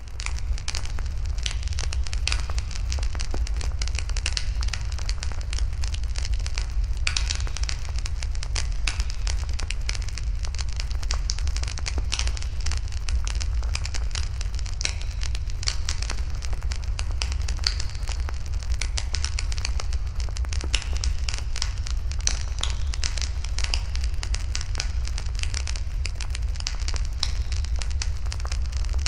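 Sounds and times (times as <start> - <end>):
steady low rumble: 0.0 - 29.0
wood fire crackling and popping: 0.0 - 29.0.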